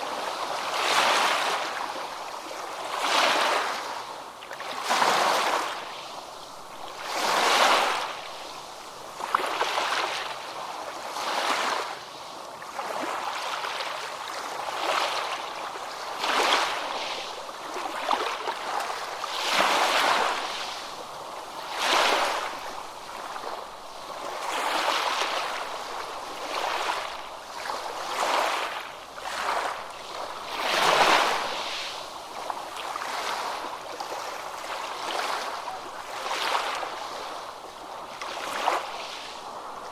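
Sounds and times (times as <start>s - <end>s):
ocean waves breaking: 0.0s - 12.0s, 12.6s - 39.9s.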